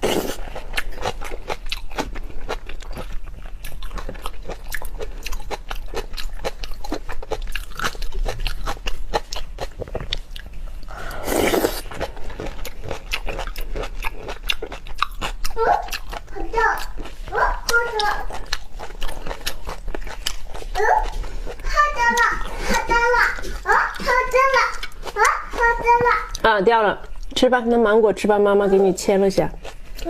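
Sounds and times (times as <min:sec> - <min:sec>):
wet crunching and chewing: 0:00.0 - 0:27.4, 0:29.2 - 0:30.0.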